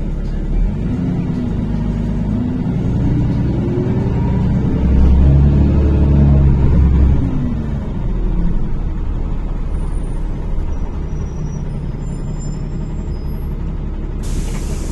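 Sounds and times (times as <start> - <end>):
bus engine accelerating: 0.0 - 14.9.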